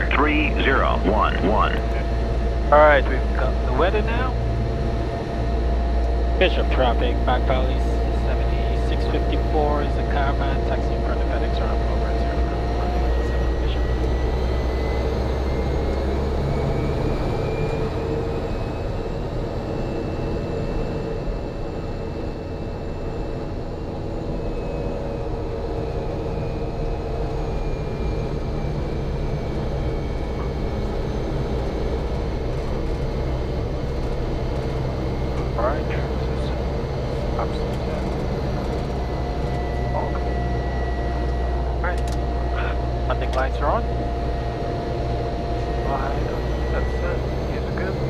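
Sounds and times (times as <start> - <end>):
high turbine whine: 0.0 - 48.0
turboprop engine running: 0.0 - 48.0.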